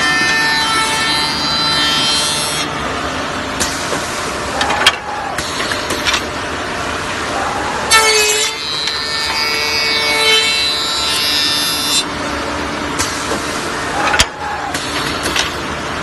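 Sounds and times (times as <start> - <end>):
machine spindle whine: 0.0 - 16.0.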